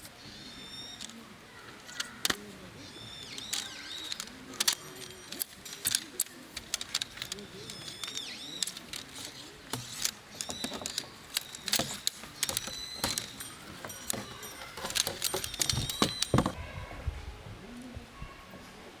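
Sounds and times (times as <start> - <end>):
metallic clinks of camping gear: 0.0 - 16.8.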